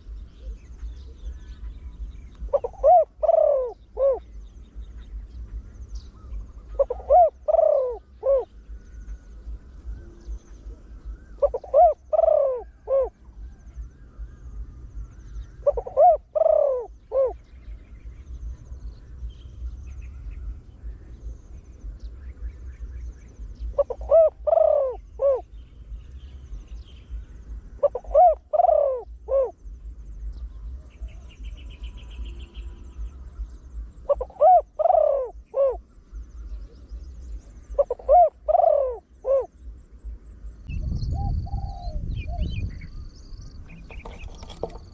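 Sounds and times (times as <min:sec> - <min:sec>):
dove cooing: 0:00.0 - 0:42.9, 0:43.6 - 0:44.9.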